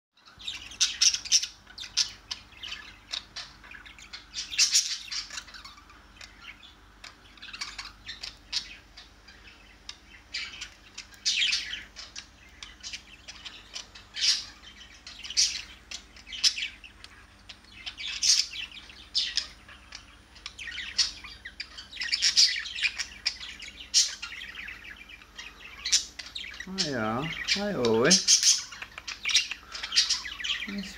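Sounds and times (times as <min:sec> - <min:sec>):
budgerigars chirping: 0:00.2 - 0:30.9.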